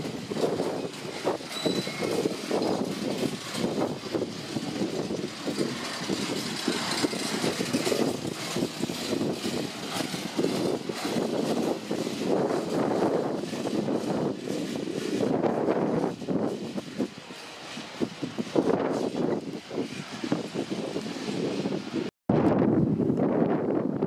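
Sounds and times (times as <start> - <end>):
train wheels rumbling on rails: 0.0 - 22.1
wheels clattering: 0.0 - 22.1.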